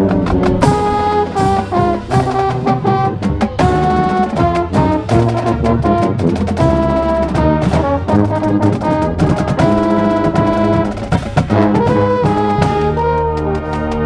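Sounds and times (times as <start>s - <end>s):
brass chords: 0.0s - 14.0s
drums: 0.0s - 14.0s
marching band playing: 0.0s - 14.0s.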